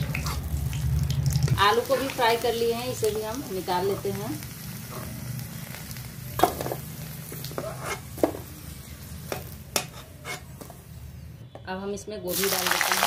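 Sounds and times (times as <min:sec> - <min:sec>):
oil sizzling in a pan: 0:00.0 - 0:11.2, 0:12.3 - 0:13.0.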